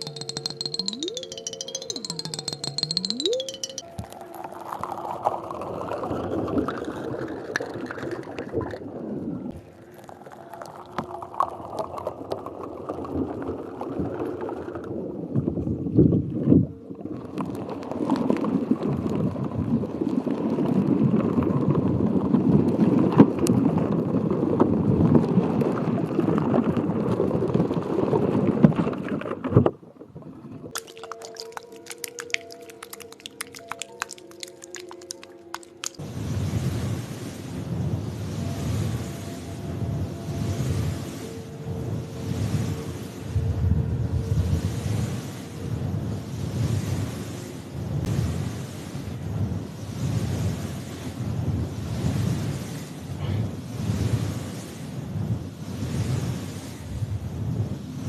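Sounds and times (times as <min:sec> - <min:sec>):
water gurgling and sloshing: 0:00.0 - 0:21.3, 0:25.2 - 0:58.0.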